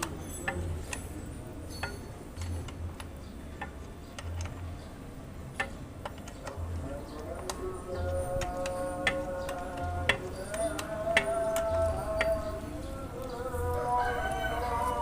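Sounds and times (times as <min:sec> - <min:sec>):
metal tools clicking and tapping: 0:00.0 - 0:04.9, 0:05.5 - 0:12.8.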